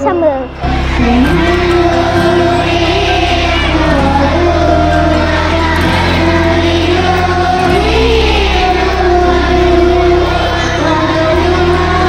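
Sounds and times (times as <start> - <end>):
amplified backing track: 0.0 - 12.0
girl singing into microphone: 0.9 - 12.0.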